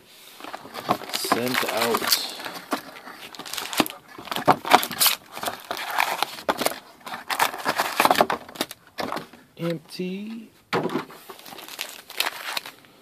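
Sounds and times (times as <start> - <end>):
foil packs crinkling: 0.4 - 9.4, 11.0 - 13.0.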